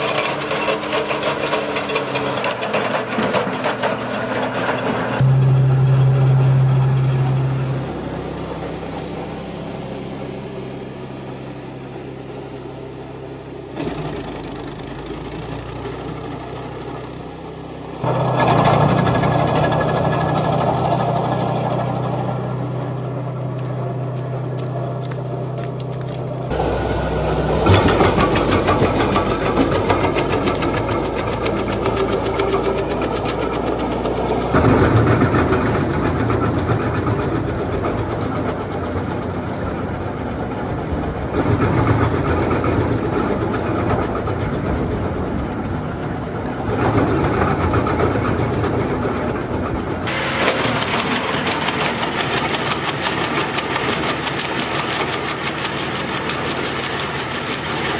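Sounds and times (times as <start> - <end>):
wood chipper engine running: 0.0 - 57.9.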